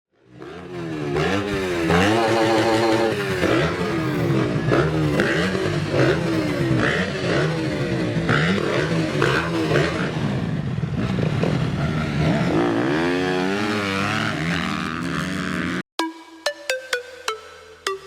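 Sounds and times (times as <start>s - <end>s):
dirt bike engines revving: 0.2s - 15.8s.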